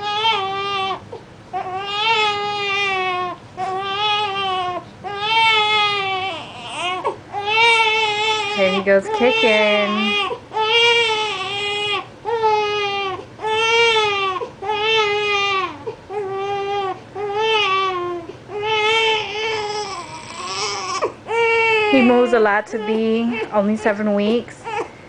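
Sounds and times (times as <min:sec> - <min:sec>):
baby crying: 0:00.0 - 0:23.6, 0:24.6 - 0:24.9.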